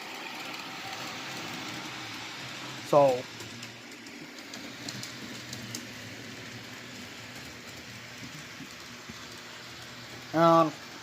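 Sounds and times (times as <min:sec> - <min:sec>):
model train rumble and motor hum: 0:00.0 - 0:11.0.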